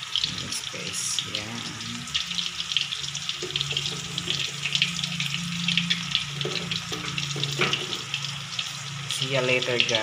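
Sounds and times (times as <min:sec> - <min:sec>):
meatballs sizzling in a wok: 0:00.0 - 0:10.0.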